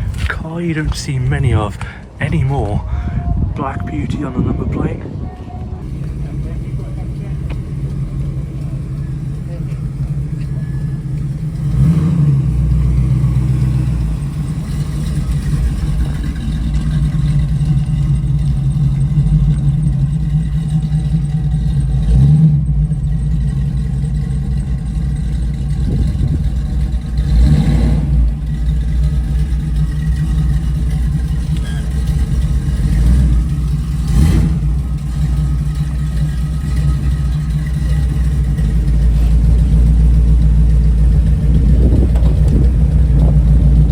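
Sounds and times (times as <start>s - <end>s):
car engines idling: 0.0s - 43.9s
engine revs: 5.8s - 43.9s.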